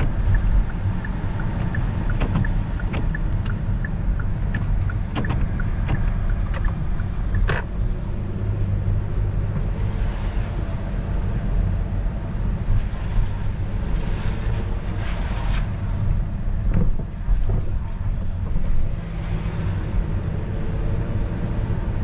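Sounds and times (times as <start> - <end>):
car interior road rumble: 0.0 - 22.0.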